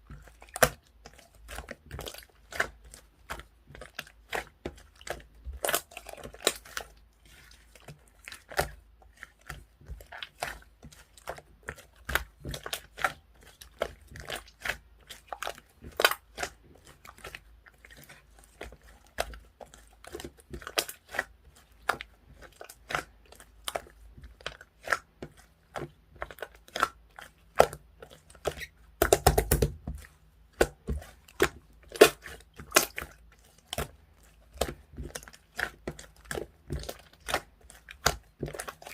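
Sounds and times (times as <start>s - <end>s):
slime crackling: 0.1s - 38.9s.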